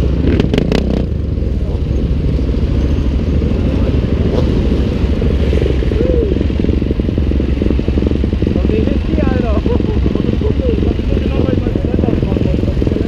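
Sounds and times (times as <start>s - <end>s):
motorcycle engine running: 0.0s - 13.0s
other motorcycle engines: 0.0s - 13.0s.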